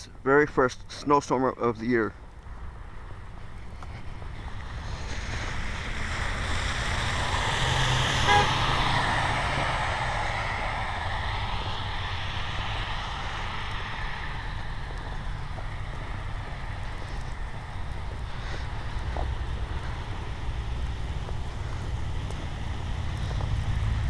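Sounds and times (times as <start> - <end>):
vehicle passing on snow: 2.6 - 24.0.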